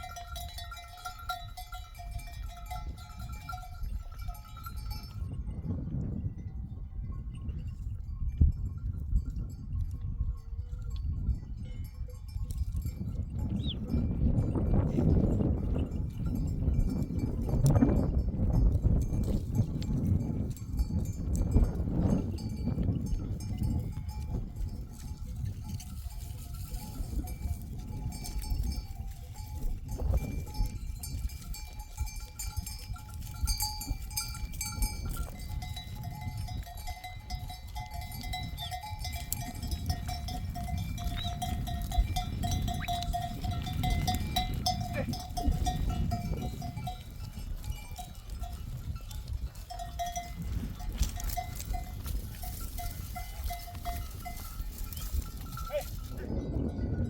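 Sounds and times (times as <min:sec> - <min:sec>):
sheep bells clanking: 0:00.0 - 0:57.0.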